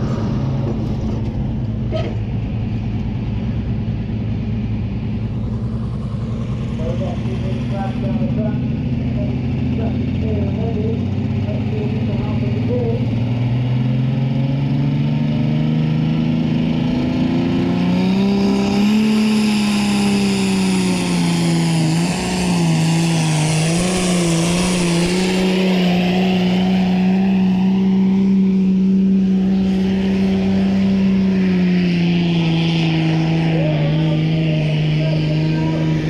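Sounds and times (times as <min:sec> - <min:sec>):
tractor diesel engine at high revs: 0:00.0 - 0:36.0.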